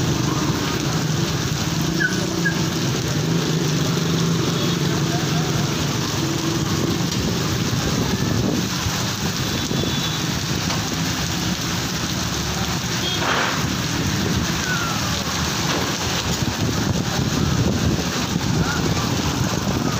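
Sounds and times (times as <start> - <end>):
heavy rain on a wet street: 0.0 - 19.9.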